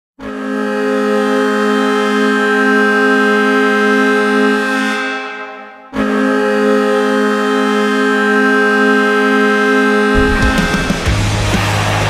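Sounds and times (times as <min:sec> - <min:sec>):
hockey goal horn blast: 0:00.2 - 0:12.0.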